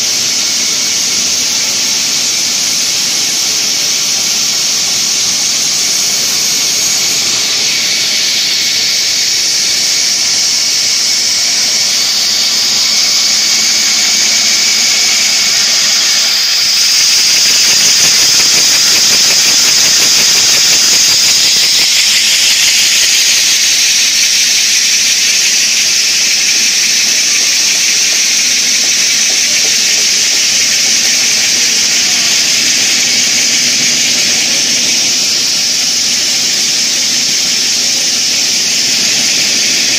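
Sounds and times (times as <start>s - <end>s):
wire drawing machine hiss and squeal: 0.0s - 39.9s.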